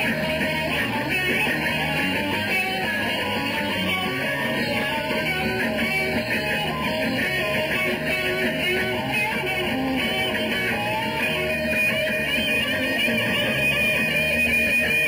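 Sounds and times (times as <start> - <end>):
electric guitar: 0.0 - 15.0
live rock band playing: 0.0 - 15.0.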